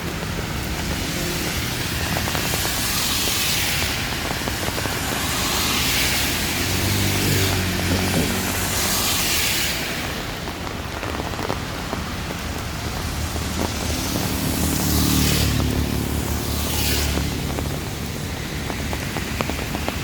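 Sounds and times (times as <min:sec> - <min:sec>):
heavy rain: 0:00.0 - 0:20.0
vehicles passing on wet road: 0:00.0 - 0:20.0.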